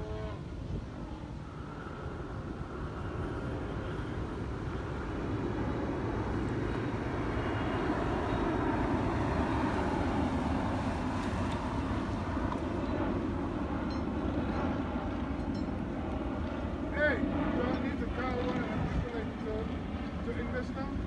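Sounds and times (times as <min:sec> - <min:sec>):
model airplane engine droning: 0:00.0 - 0:21.0.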